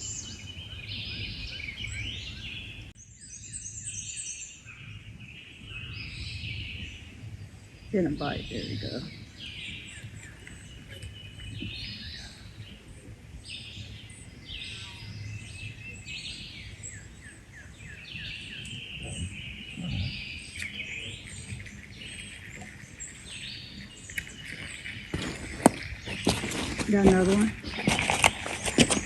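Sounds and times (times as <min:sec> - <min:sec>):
birds chirping: 0:00.0 - 0:29.0
low outdoor background: 0:00.0 - 0:29.0.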